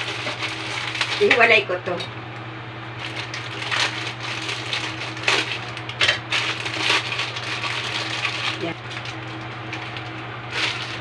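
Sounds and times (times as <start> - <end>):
plastic wrapper crinkling and tearing: 0.0 - 1.4, 3.0 - 11.0
steady low hum: 0.0 - 11.0.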